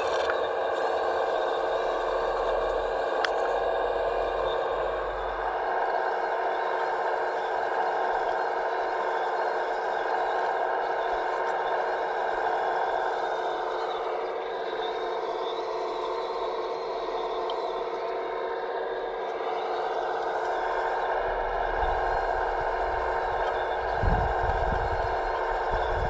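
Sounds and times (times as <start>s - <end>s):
model vehicle mechanical whine: 0.0s - 26.0s.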